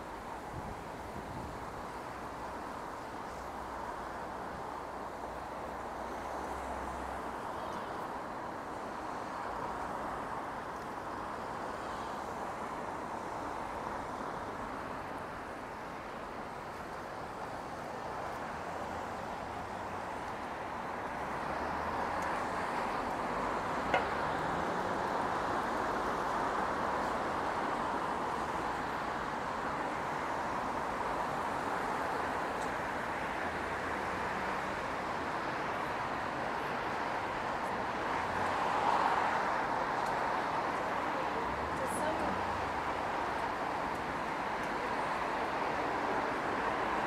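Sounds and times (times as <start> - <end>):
street traffic hiss: 0.0 - 47.0.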